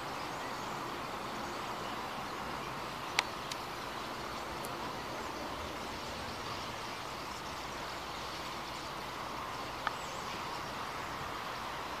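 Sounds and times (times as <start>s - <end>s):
birds chorus: 0.0s - 12.0s.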